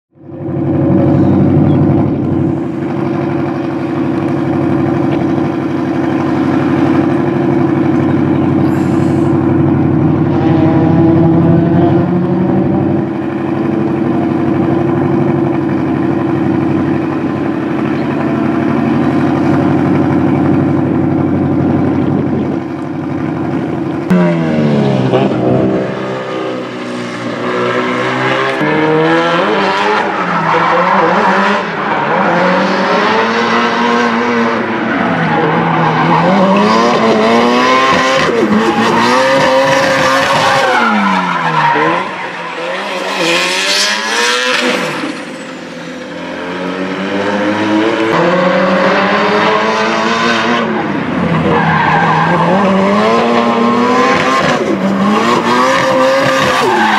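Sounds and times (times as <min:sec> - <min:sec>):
car engine idling and revving: 0:00.1 - 0:56.9.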